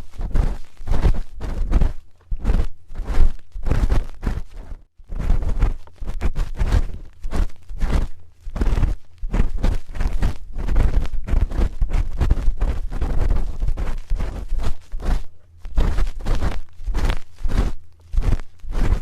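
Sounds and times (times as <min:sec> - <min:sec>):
spoon scraping microphone: 0:00.0 - 0:19.0.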